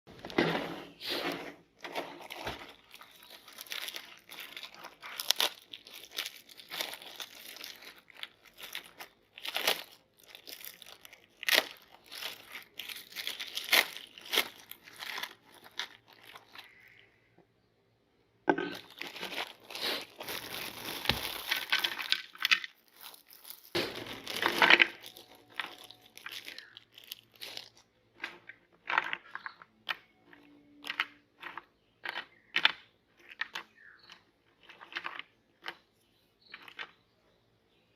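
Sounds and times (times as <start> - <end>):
cookies crunching in a meat grinder: 1.7 - 17.0, 18.7 - 37.0.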